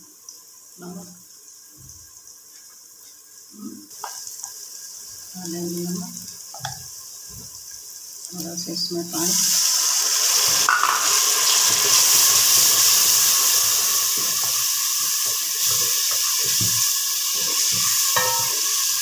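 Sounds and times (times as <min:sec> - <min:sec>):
frying masala sizzling: 0:00.0 - 0:19.0.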